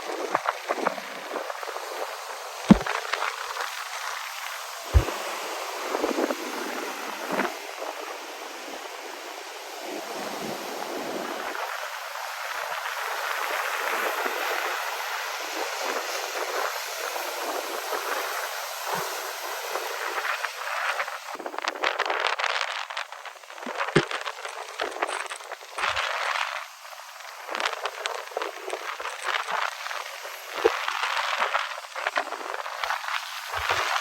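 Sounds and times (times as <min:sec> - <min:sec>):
ocean surf washing ashore: 0:00.0 - 0:34.0.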